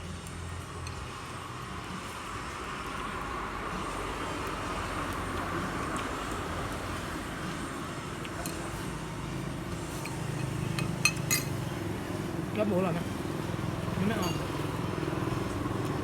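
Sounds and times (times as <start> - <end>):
passing motor traffic: 0.0 - 16.0.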